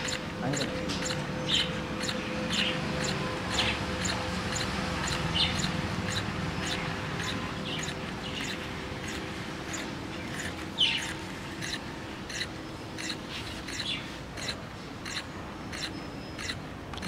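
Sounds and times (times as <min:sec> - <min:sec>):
solenoid engine clicking: 0:00.0 - 0:17.0.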